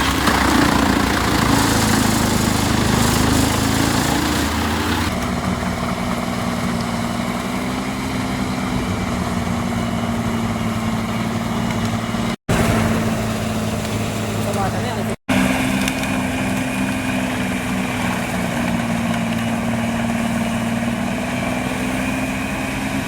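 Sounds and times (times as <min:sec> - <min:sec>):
machine engine running: 0:00.0 - 0:23.0.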